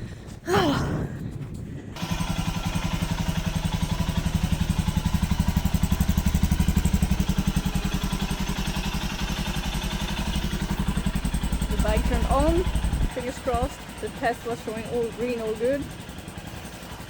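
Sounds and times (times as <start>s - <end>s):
motorcycle engine idling: 1.9s - 17.0s.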